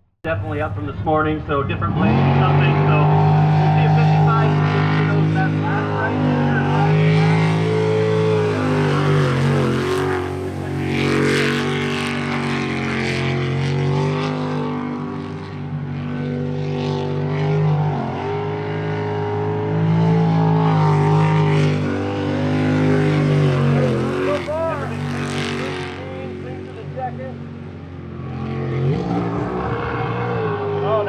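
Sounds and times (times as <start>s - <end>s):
jet boat engine running hard: 0.5s - 31.0s.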